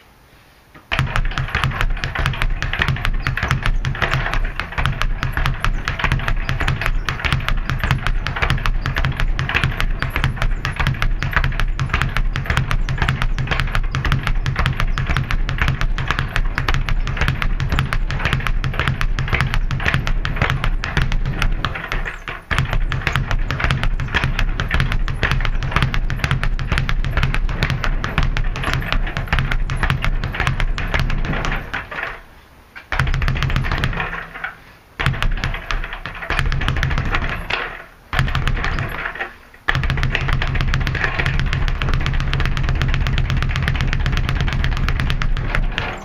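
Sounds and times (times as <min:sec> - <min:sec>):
speed bag drumming: 0:00.9 - 0:32.2, 0:32.9 - 0:34.4, 0:35.0 - 0:46.0.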